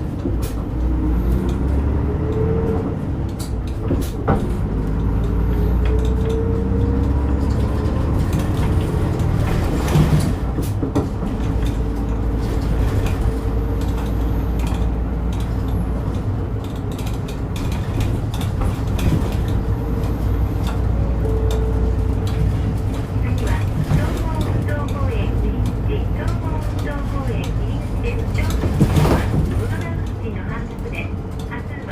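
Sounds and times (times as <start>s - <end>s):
bus diesel engine drone: 0.0s - 31.9s.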